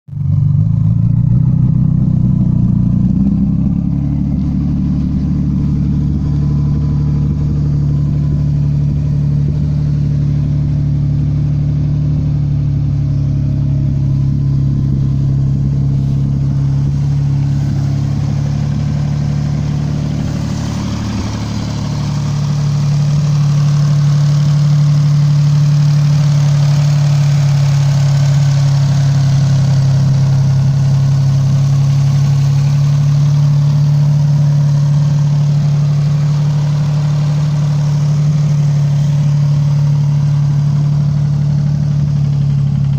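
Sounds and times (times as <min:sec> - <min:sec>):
car engine idling: 0:00.2 - 0:42.9.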